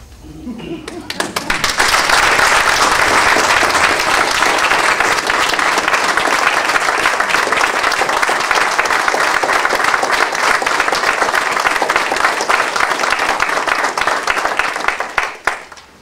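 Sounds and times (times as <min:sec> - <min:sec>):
crowd applauding: 0:00.9 - 0:15.9.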